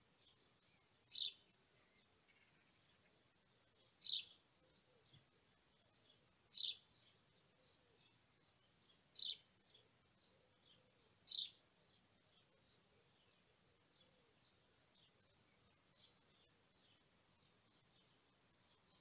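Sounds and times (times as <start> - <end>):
bird chirping: 0.0 - 19.0
faint bird twittering: 0.1 - 19.0.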